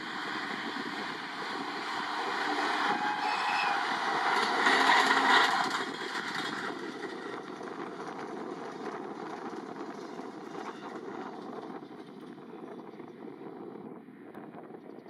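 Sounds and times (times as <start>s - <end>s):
train wheels rumbling: 0.0s - 13.3s.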